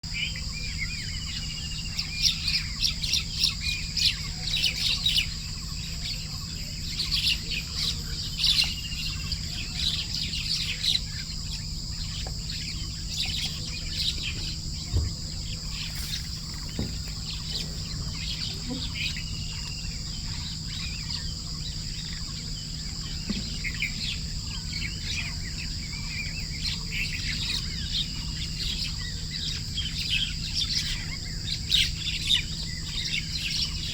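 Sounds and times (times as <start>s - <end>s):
songbirds chirping and singing: 0.1s - 33.9s.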